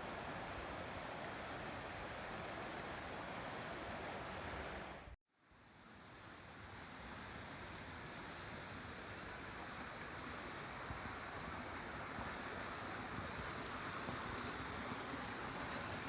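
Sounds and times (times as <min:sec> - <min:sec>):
mountain stream rushing: 0:00.0 - 0:05.2, 0:05.8 - 0:16.0.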